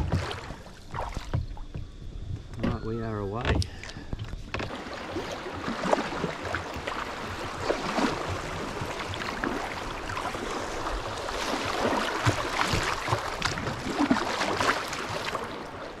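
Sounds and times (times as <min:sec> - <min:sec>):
water slapping a kayak hull: 0:00.0 - 0:16.0.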